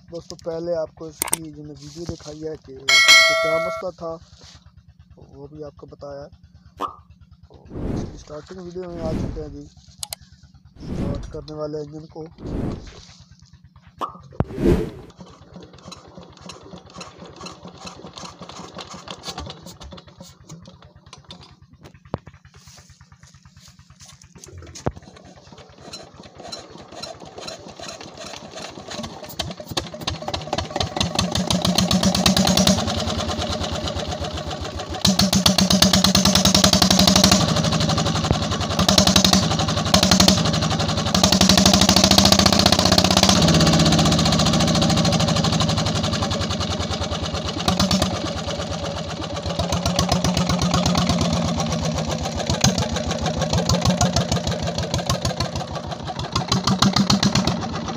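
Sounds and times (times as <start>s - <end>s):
diesel engine starting and running: 0.0s - 57.9s.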